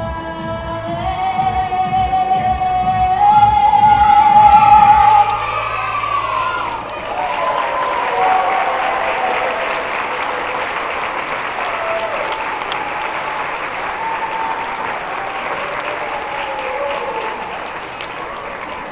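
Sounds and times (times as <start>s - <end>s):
audience applauding: 3.3s - 18.9s.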